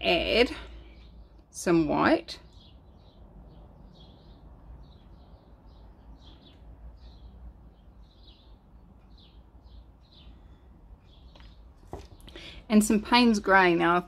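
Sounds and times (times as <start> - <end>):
bird chirping: 0.1 - 13.9.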